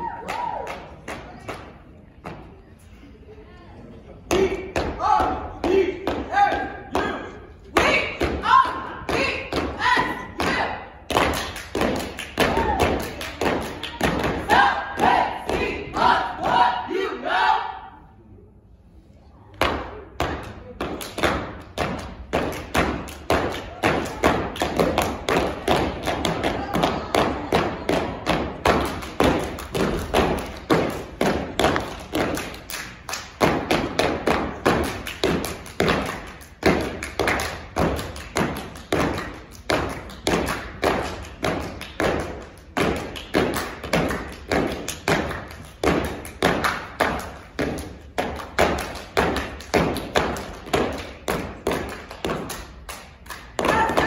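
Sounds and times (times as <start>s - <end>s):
hands clapping: 0.0s - 2.4s, 8.6s - 15.7s, 19.6s - 54.0s.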